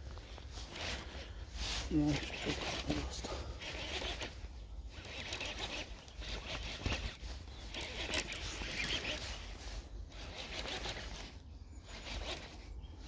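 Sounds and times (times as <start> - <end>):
fishing reel whirring: 2.0 - 12.7.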